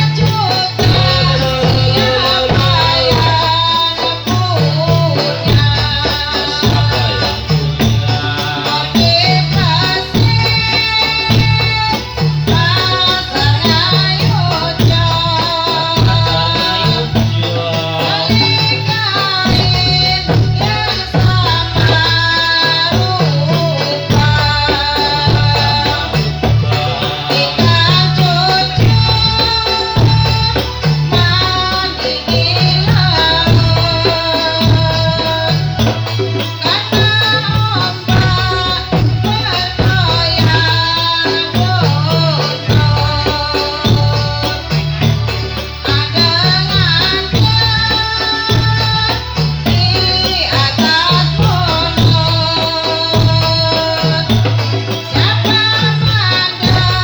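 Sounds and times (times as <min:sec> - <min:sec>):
jingling rattle percussion: 0:00.0 - 0:57.0
person singing: 0:00.0 - 0:57.0
repeating drum beat: 0:00.0 - 0:57.0.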